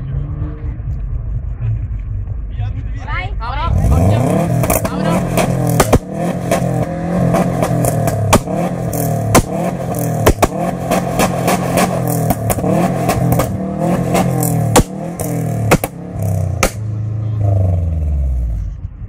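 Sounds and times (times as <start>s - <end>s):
car engine at high revs: 0.0s - 2.8s, 3.5s - 19.0s
exhaust cracks: 0.0s - 19.0s.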